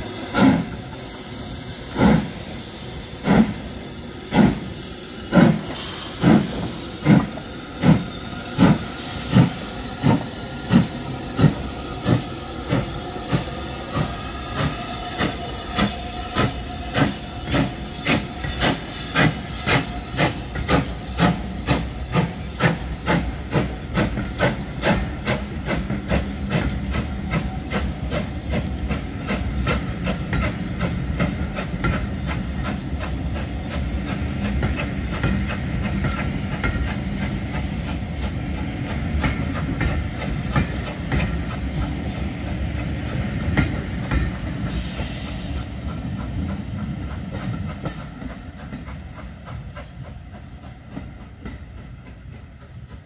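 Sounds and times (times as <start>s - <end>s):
steam locomotive exhaust beats: 0.0s - 53.0s
train wheels clicking over rail joints: 0.1s - 53.0s.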